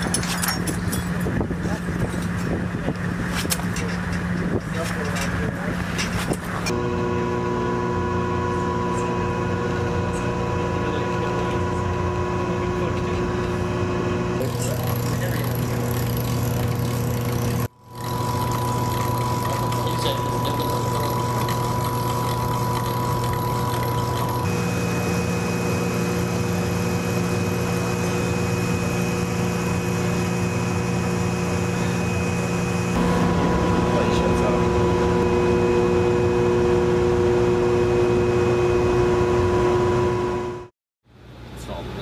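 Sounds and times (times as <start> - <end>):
machinery hum with held tones: 6.5 - 42.0.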